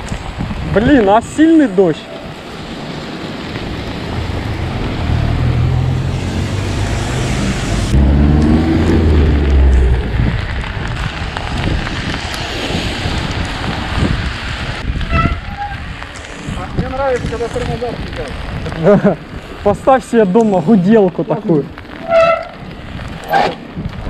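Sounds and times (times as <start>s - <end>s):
passing vehicle engine and tyres: 0.0s - 20.7s, 21.6s - 24.0s
heavy rain: 0.0s - 24.0s
wind buffeting microphone: 0.0s - 24.0s.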